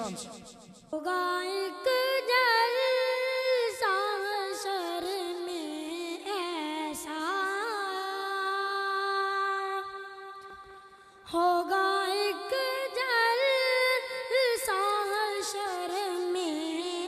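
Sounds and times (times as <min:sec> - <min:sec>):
boy singing unaccompanied: 0:01.0 - 0:10.0, 0:11.3 - 0:17.0.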